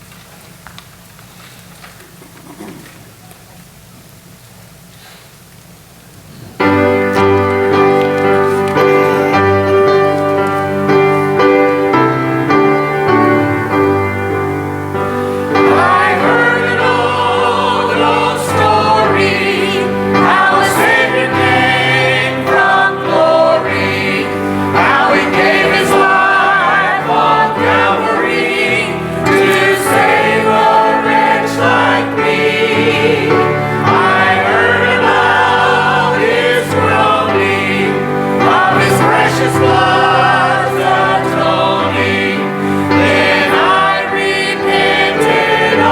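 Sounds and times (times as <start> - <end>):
piano accompaniment: 6.4 - 45.9
choir singing a hymn: 6.6 - 45.9.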